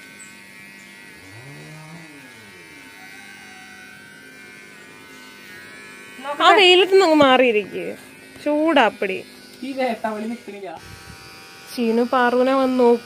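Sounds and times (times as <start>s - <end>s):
electric hair trimmer buzzing: 0.0s - 13.0s.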